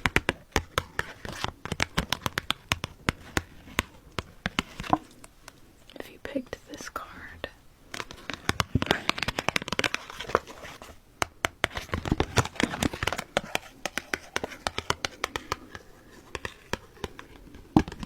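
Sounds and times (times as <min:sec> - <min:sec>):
hands tapping cards: 0:00.0 - 0:05.6, 0:07.9 - 0:18.0
crinkling and scratching: 0:00.0 - 0:18.0.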